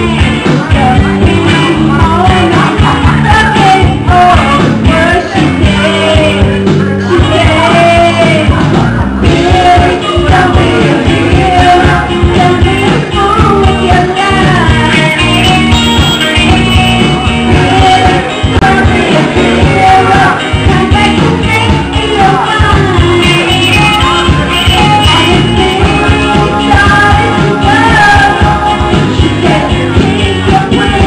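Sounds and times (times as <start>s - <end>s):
karaoke singer singing: 0.0s - 31.0s
loud backing track: 0.0s - 31.0s.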